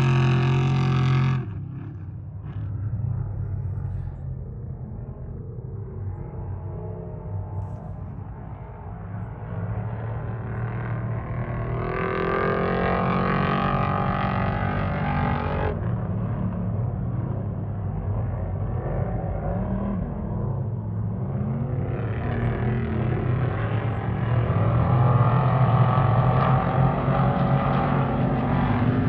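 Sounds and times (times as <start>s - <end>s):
race vehicle engines revving: 0.0s - 4.2s, 9.3s - 29.0s.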